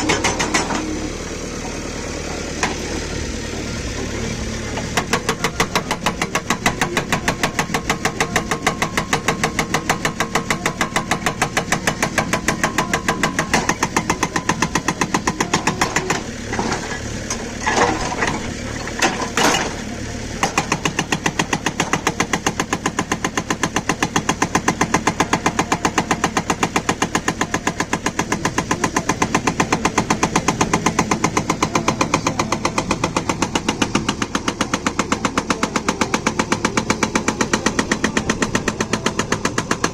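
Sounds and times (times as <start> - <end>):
hydraulic breaker hammering: 0.0 - 1.1, 4.7 - 39.9
backhoe engine running: 0.0 - 39.9.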